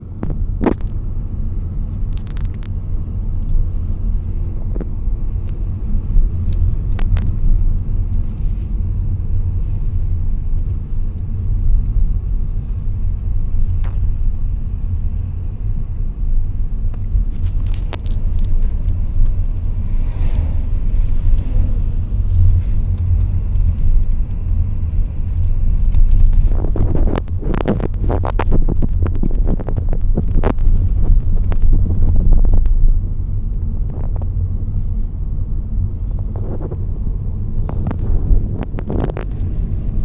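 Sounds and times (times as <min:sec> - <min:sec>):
low rumble: 0:00.0 - 0:40.0.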